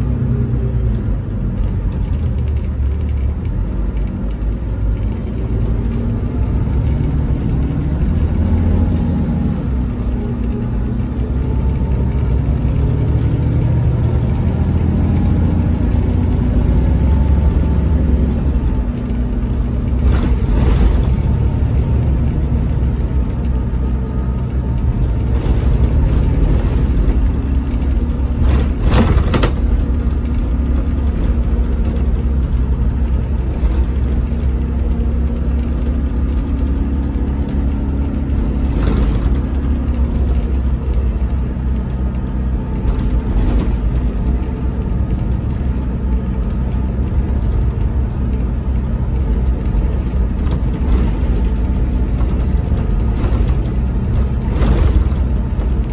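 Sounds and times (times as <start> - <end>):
coach diesel engine drone: 0.0 - 55.9
knocks and rattles: 0.9 - 55.9.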